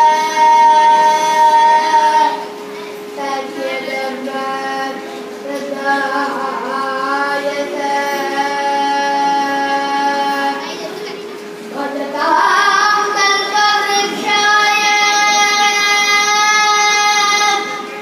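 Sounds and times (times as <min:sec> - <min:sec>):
boy singing: 0:00.0 - 0:02.6, 0:03.2 - 0:11.0, 0:11.7 - 0:18.0
steady drone: 0:00.0 - 0:18.0.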